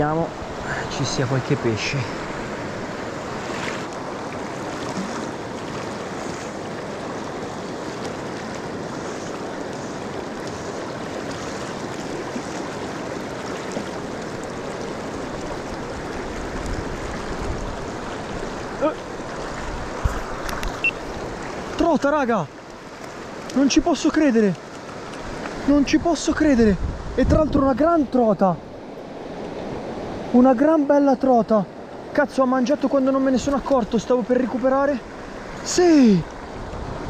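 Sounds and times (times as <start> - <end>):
mountain stream rushing: 0.0 - 37.0.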